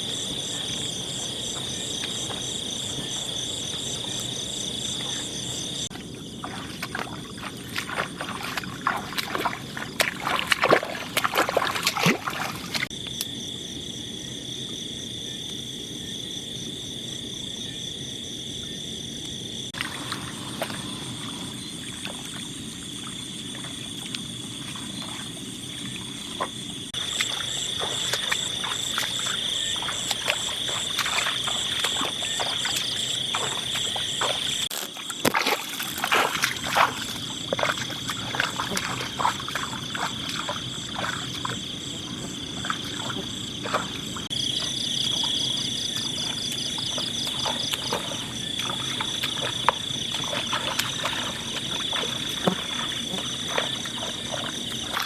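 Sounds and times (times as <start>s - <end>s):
insects and frogs trilling: 0.0s - 55.0s.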